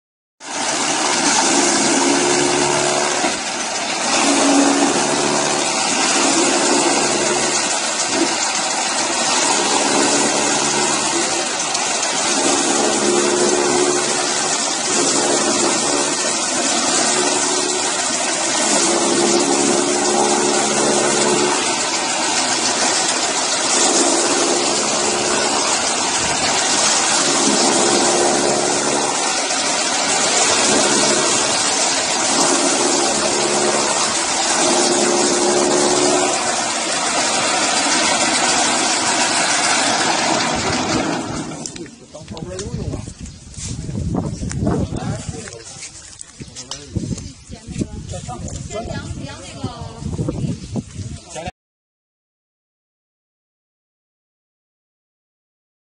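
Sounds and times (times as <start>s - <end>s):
grass chopper rushing noise: 0.4s - 49.6s.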